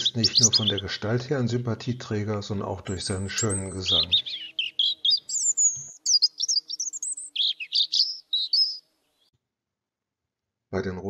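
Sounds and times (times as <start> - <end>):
robin singing: 0.0 - 9.3.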